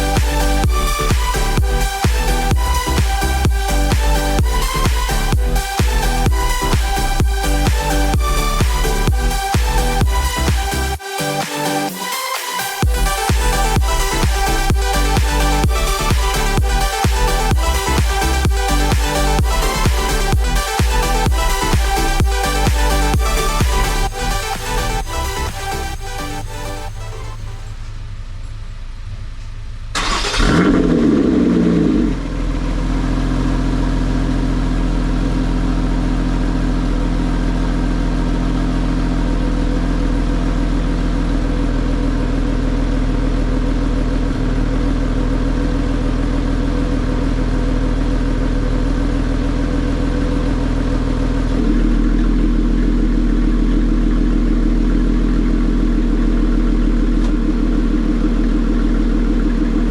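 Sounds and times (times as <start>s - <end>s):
car engine starting and idling: 0.0s - 59.9s.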